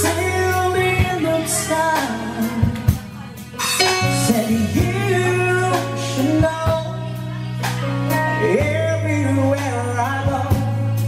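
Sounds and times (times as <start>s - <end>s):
live band playing soft rock: 0.0s - 11.0s
man singing into microphone: 0.0s - 11.0s.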